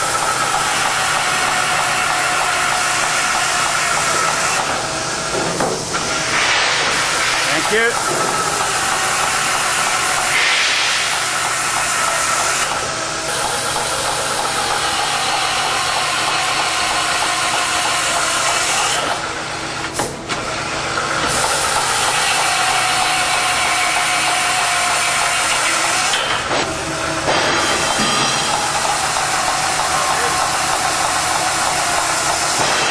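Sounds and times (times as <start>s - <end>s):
drill cutting steel: 0.0s - 4.8s, 6.3s - 19.2s, 21.3s - 26.3s, 27.4s - 32.9s.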